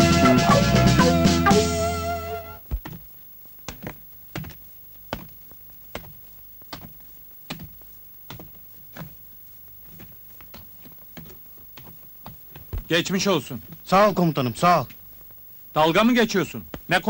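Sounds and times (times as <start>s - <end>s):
heavy boots walking on stony ground: 2.6s - 17.0s.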